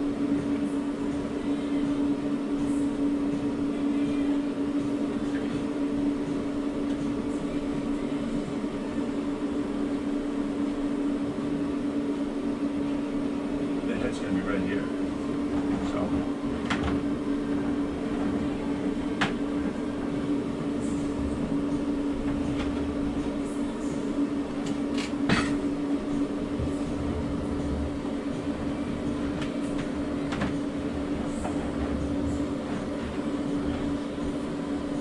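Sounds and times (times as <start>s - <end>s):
blower fan running: 0.0s - 35.0s.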